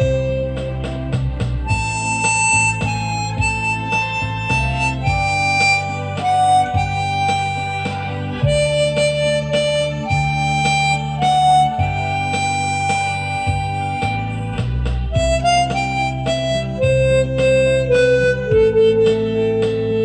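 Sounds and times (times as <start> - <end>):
harmonica slow melody: 0.0 - 20.0
lower chord accompaniment: 0.0 - 20.0.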